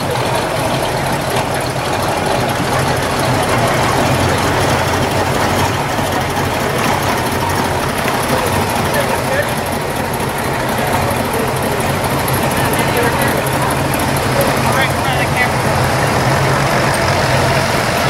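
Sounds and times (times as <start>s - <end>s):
car engines idling past: 0.0s - 18.0s.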